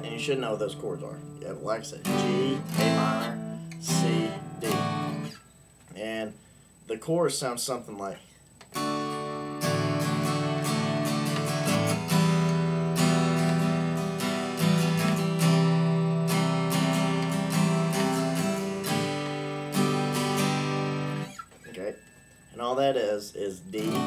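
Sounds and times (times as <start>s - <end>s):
acoustic guitar strumming chords: 0.0s - 5.4s, 8.7s - 24.0s.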